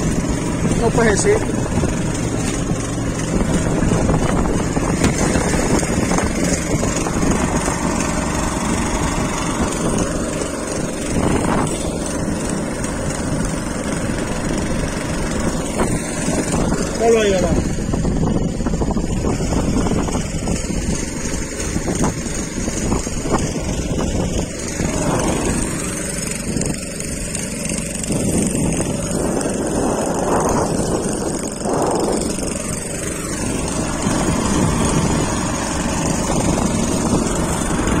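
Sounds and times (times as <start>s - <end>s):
boat engine running: 0.0s - 38.0s
water splashing along hull: 0.0s - 38.0s.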